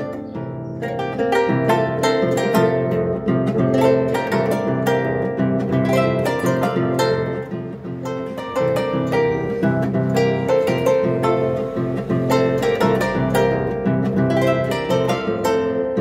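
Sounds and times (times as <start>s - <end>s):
harp plucked melody: 0.0s - 16.0s
ringing low harp strings: 0.0s - 16.0s.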